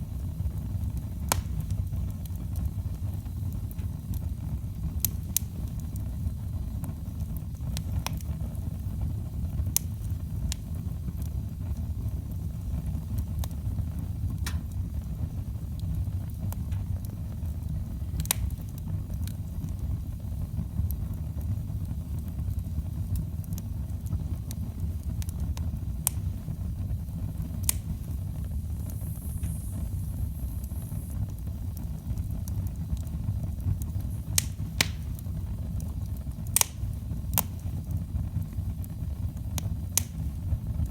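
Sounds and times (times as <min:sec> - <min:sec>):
fire roaring: 0:00.0 - 0:40.9
logs crackling and popping: 0:00.5 - 0:40.9.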